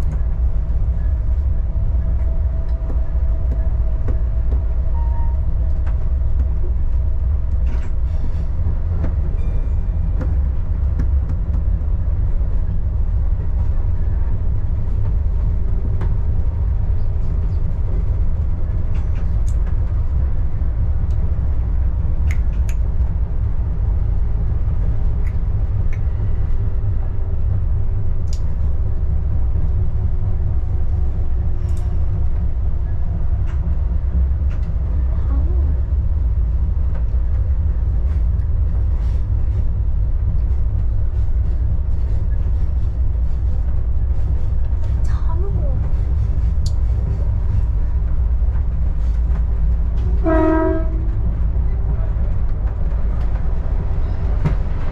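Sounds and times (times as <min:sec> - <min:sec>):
diesel railcar rumbling: 0:00.0 - 0:54.9.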